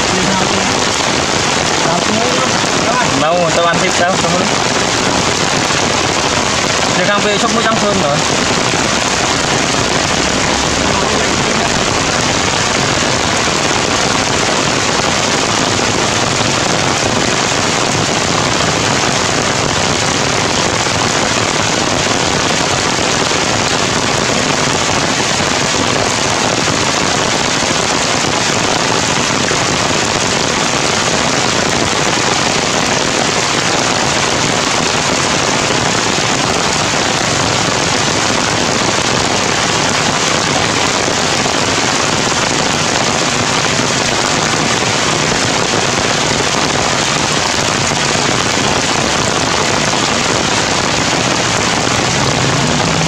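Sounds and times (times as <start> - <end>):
heavy rain on tree leaves: 0.0 - 53.0.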